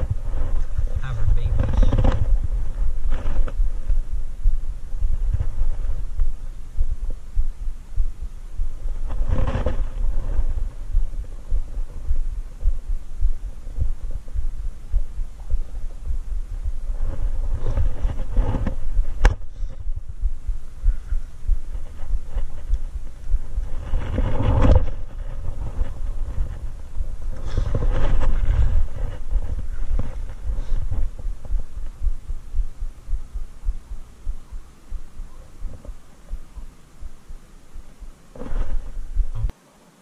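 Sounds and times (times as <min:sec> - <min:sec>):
body movement thumps and rustling: 0:00.0 - 0:20.4, 0:21.5 - 0:32.7, 0:38.3 - 0:39.5
wind on microphone: 0:00.0 - 0:39.6.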